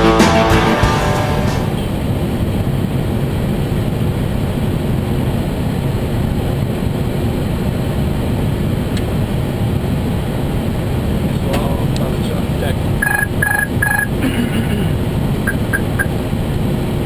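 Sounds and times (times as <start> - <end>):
airflow over cockpit: 1.4 - 17.0
aircraft engine noise: 1.5 - 17.0.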